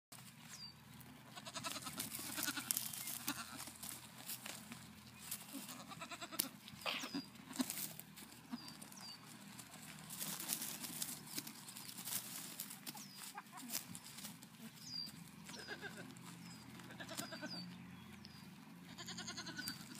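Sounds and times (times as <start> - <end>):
hooves knocking and rustling hay: 0.1 - 19.9
goat kids bleating: 1.2 - 17.8, 18.8 - 19.9.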